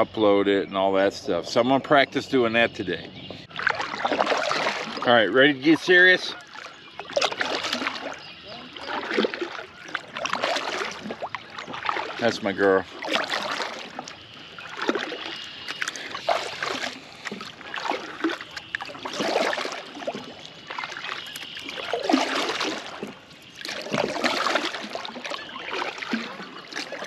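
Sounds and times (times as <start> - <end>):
paddle splashing in water: 3.0 - 27.0.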